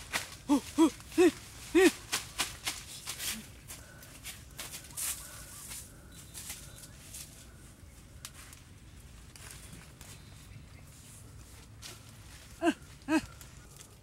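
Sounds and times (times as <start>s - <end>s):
leafy branches rustling: 0.0s - 14.0s.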